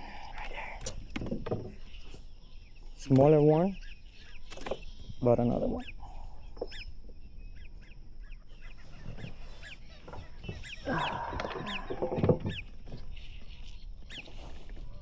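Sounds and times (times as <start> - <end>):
high falling bird chirps: 0.0 - 15.0.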